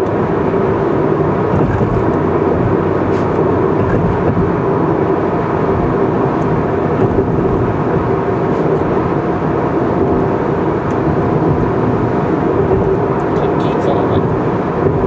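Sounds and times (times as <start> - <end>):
tyre and engine noise: 0.0 - 15.0.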